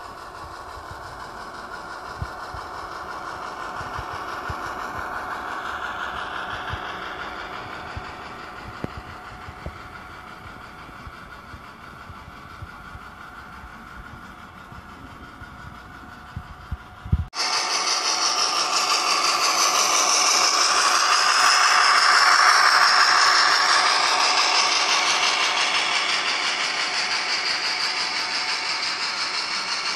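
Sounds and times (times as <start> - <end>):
model train diesel engine sound: 0.0 - 29.9
wheels clicking on track: 0.0 - 29.9.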